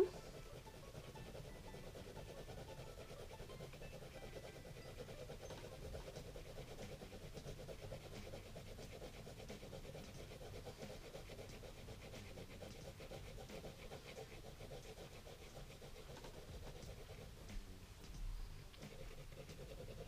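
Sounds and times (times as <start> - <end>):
pencil scratching on paper: 0.0 - 17.7, 18.6 - 20.0.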